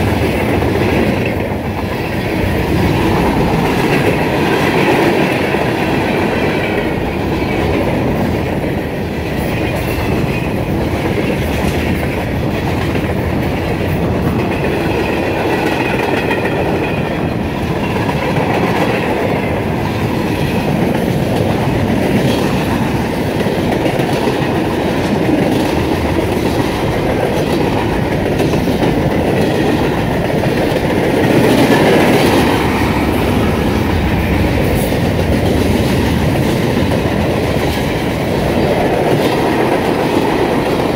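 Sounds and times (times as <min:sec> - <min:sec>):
train wheels clicking over rail joints: 0:00.0 - 0:40.9.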